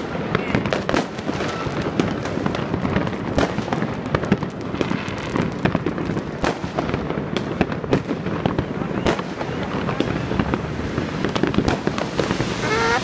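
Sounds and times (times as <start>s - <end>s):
fireworks and firecrackers crackling: 0.0s - 13.0s
loud firework bang: 0.0s - 13.0s.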